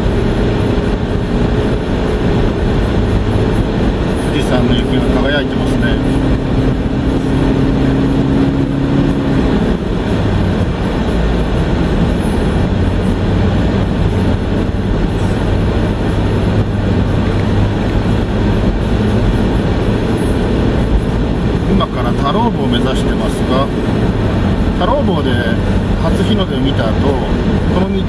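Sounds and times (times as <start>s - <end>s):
low car engine hum: 0.0s - 28.0s
tyre and road noise: 0.0s - 28.0s.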